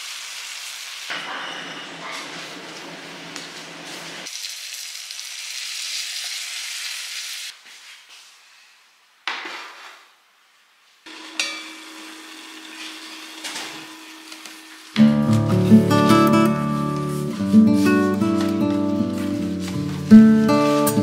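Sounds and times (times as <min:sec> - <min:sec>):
food sizzling: 0:00.0 - 0:07.6, 0:11.1 - 0:21.0.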